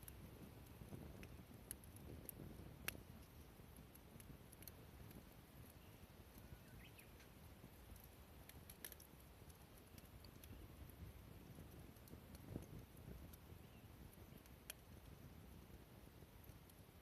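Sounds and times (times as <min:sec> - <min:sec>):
sharp snaps of fire: 0:00.0 - 0:17.0
wood fire crackling: 0:00.0 - 0:17.0.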